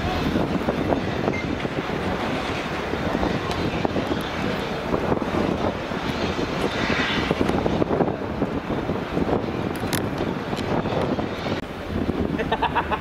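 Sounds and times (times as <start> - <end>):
train coaches rumbling over rails: 0.0 - 13.0
wind on microphone: 0.0 - 13.0.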